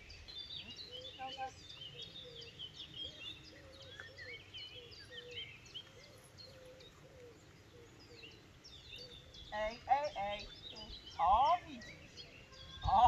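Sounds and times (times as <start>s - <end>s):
faint outdoor hiss: 0.0s - 13.0s
low repeated bird call: 0.0s - 13.0s
songbirds chirping and whistling: 0.0s - 13.0s.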